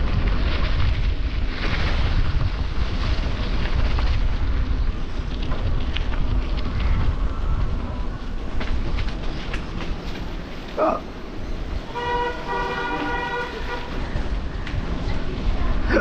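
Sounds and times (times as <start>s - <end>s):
tyres rumbling on dirt road: 0.0s - 16.0s
wind buffeting microphone: 0.0s - 16.0s.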